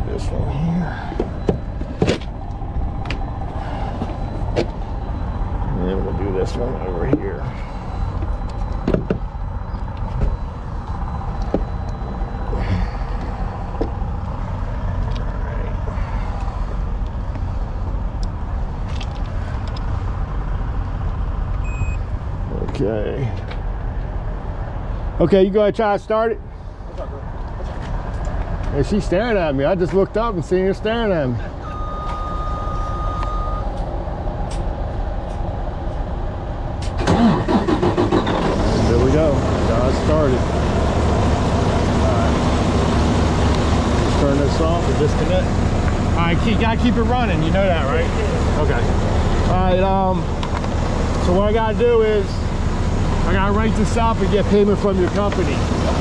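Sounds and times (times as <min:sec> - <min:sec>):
engines idling: 0:00.0 - 0:56.0.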